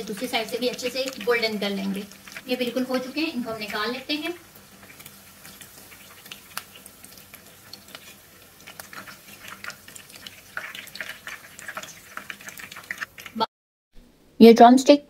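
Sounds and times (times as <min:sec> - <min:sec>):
chicken frying in hot oil: 0:00.0 - 0:13.5
oil crackling and popping: 0:00.0 - 0:13.5.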